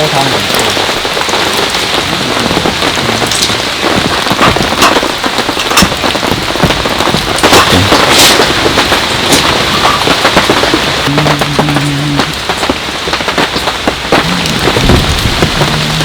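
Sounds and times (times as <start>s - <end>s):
heavy rain on a tent: 0.0s - 16.0s.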